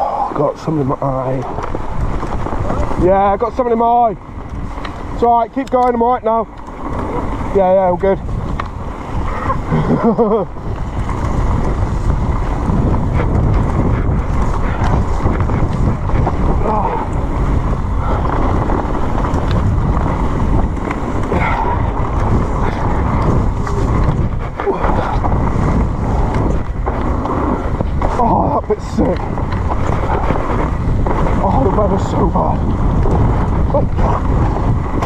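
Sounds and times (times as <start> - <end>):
bike ride rumble: 0.0 - 35.0
wind buffeting microphone: 0.0 - 35.0.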